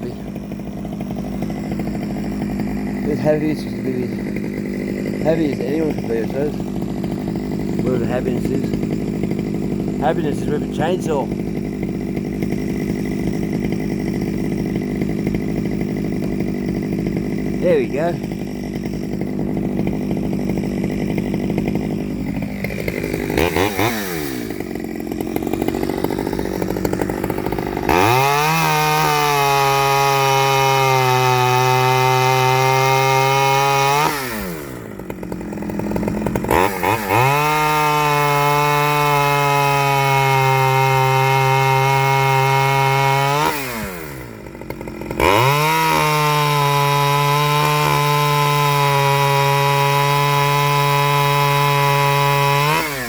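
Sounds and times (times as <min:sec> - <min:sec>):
chainsaw revving and cutting wood: 0:00.0 - 0:53.0.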